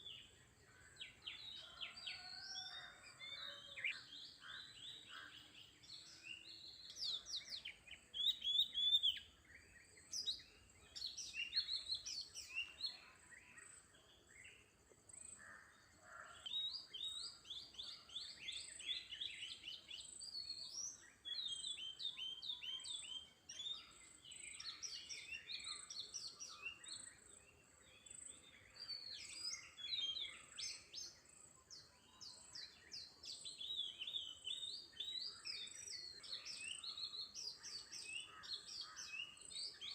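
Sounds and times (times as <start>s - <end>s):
small birds chirping: 0.0s - 15.5s, 16.4s - 39.9s.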